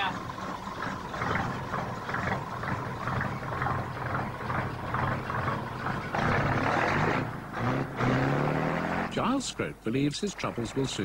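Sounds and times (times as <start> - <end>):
diesel engine running with clatter: 0.0 - 11.0.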